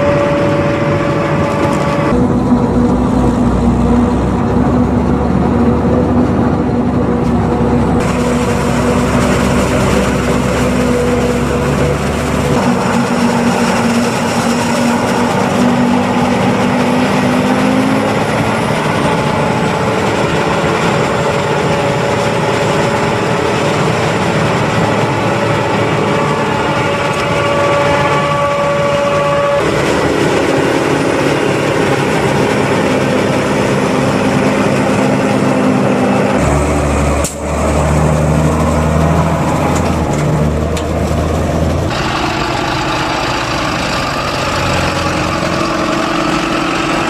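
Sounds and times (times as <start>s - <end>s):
forage harvester engine and cutterhead: 0.0s - 47.0s
tractor running: 0.0s - 47.0s.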